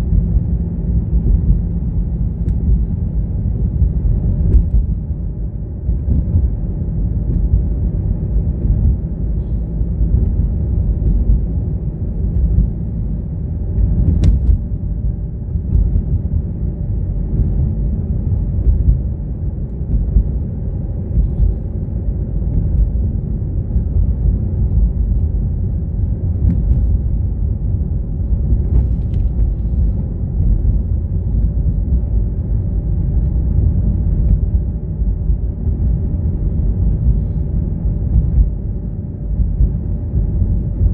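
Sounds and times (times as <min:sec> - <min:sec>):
car driving rumble: 0:00.0 - 0:40.9
faint steady hum: 0:00.0 - 0:40.9.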